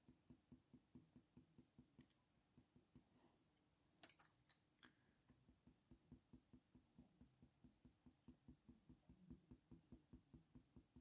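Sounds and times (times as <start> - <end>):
pencil shading on paper: 0.0 - 3.7, 4.6 - 11.0.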